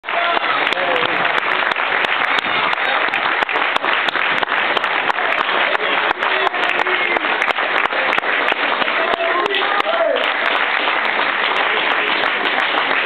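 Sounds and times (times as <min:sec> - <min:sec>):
spectators applauding: 0:00.0 - 0:13.0.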